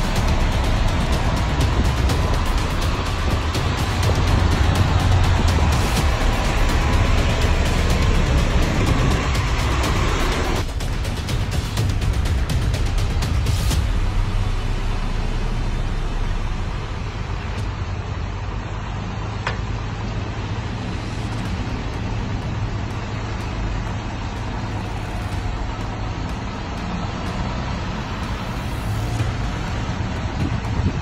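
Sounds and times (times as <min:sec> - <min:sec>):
truck and car engines idling: 0:00.0 - 0:31.0.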